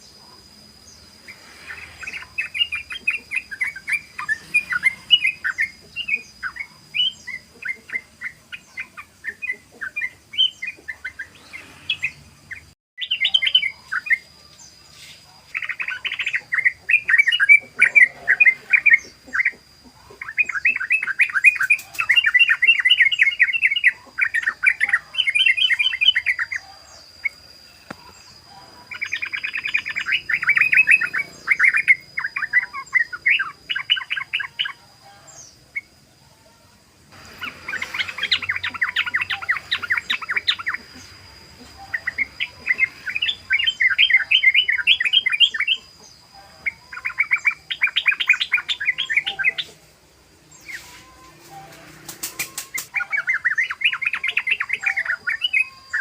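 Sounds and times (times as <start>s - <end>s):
bird chattering song: 0.0s - 36.0s, 37.2s - 56.0s.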